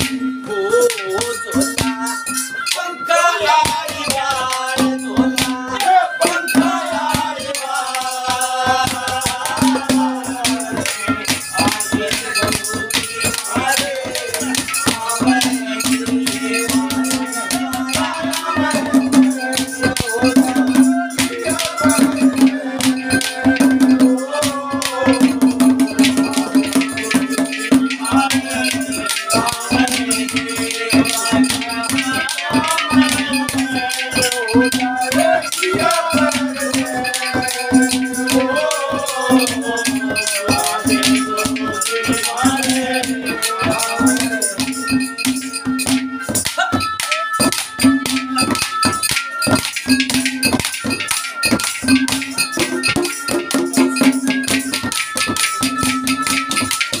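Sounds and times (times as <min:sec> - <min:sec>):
man singing: 0:00.0 - 0:45.6
rattling percussion: 0:00.0 - 0:57.0
wavering melody line: 0:00.0 - 0:57.0
clay pots drummed by hand: 0:03.7 - 0:57.0.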